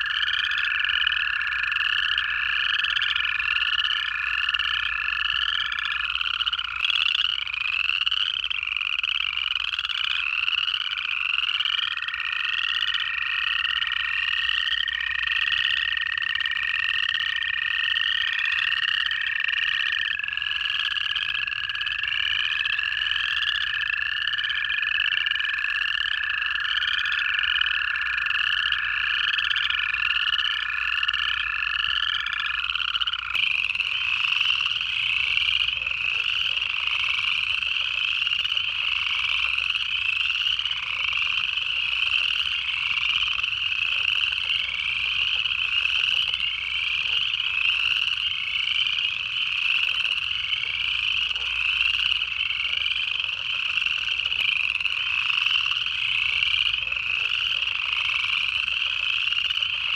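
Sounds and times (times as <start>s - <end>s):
chorus frogs rising trills: 0.0s - 59.9s
toads long even trills: 0.0s - 59.9s.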